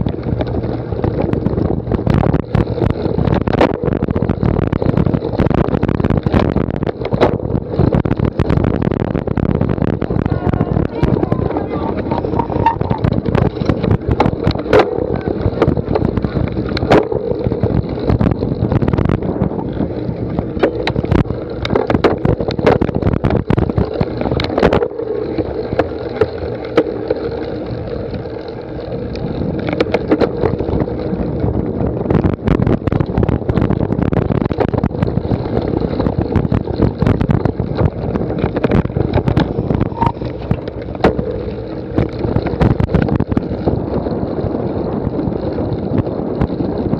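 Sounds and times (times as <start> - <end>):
bike rattling over rough ground: 0.0 - 46.9
wind buffeting microphone: 0.0 - 46.9.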